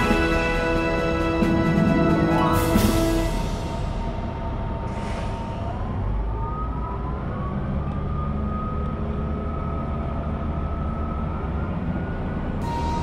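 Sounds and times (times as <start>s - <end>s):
diesel railcar engine drone: 0.0s - 13.0s
rising engine whine: 0.0s - 13.0s.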